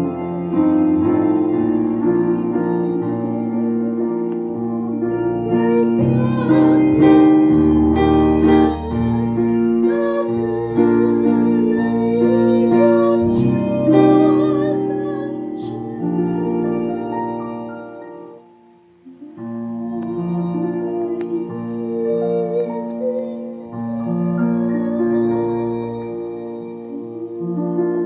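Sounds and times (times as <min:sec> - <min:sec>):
keyboard chords and melody: 0:00.0 - 0:28.0
person singing with vibrato: 0:00.0 - 0:28.0.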